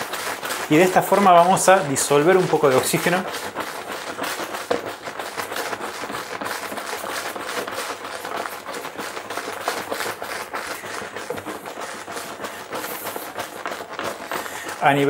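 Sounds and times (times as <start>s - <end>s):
liquid sloshing in plastic jug: 0.0s - 15.0s.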